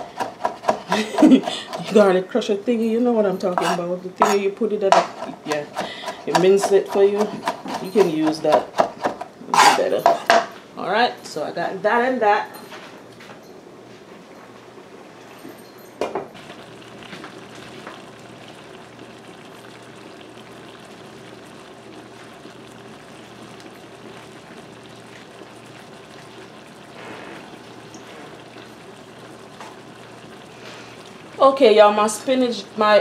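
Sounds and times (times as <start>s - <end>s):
stew bubbling in a pan: 0.0s - 10.5s, 16.4s - 33.0s.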